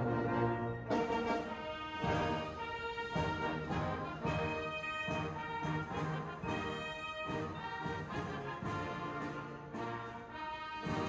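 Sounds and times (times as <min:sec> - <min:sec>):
brass chords: 0:00.0 - 0:11.0.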